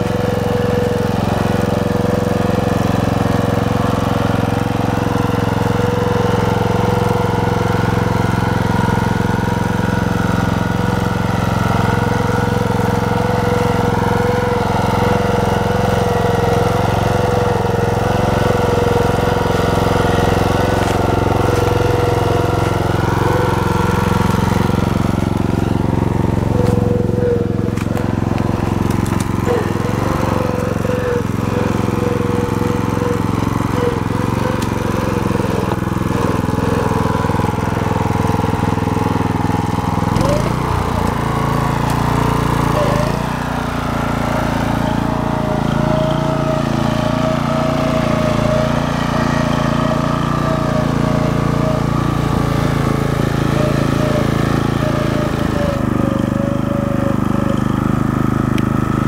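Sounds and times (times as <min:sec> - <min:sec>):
walk-behind tractor engine running: 0:00.0 - 0:59.0.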